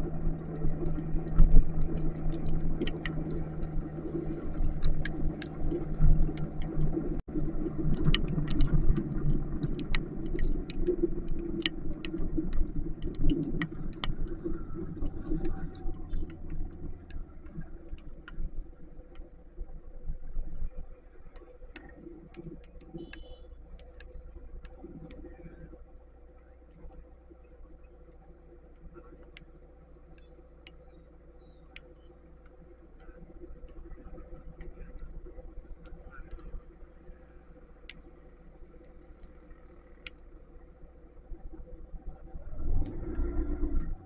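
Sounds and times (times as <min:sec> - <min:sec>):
low steady hum: 0:00.0 - 0:44.0
raindrops hitting microphone: 0:00.0 - 0:44.0.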